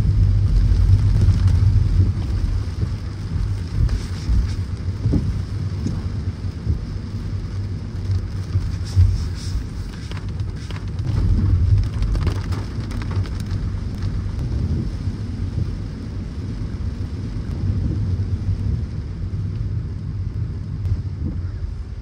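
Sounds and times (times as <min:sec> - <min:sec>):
raindrop ticks: 0:00.0 - 0:21.6
low rumble: 0:00.0 - 0:22.0
rain on a car: 0:00.0 - 0:22.0
tyres on a wet road: 0:00.0 - 0:22.0.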